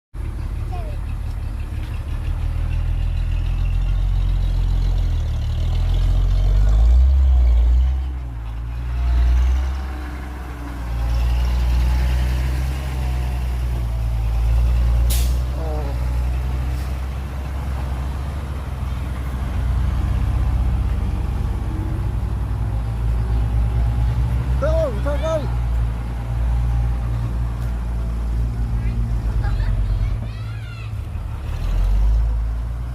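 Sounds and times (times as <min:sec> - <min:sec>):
diesel earthmoving machinery rumbling: 0:00.2 - 0:32.9.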